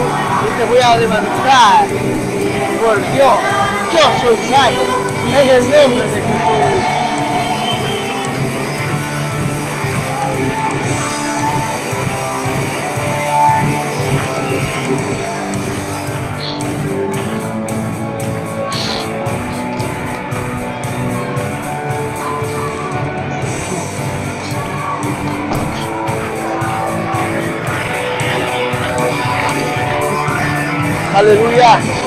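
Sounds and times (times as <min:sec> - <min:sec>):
guitar: 0:00.0 - 0:32.0
live worship band music: 0:00.0 - 0:32.0.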